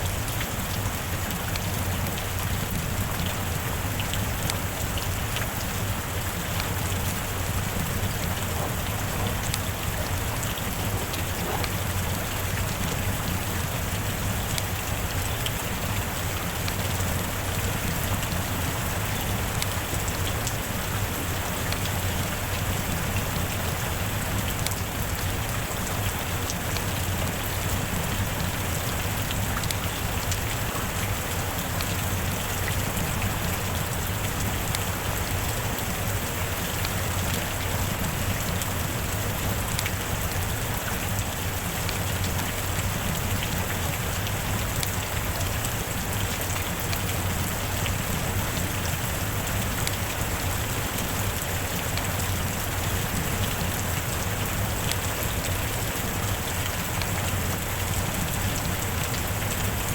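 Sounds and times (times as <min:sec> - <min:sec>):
heavy rain falling: 0:00.0 - 0:59.9
raindrops ticking on a surface: 0:00.0 - 0:59.9.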